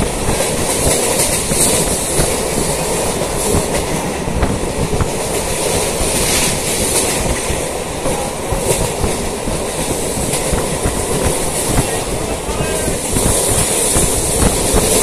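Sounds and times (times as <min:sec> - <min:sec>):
train rumble: 0:00.0 - 0:15.0
wheels clattering over rails: 0:00.0 - 0:15.0.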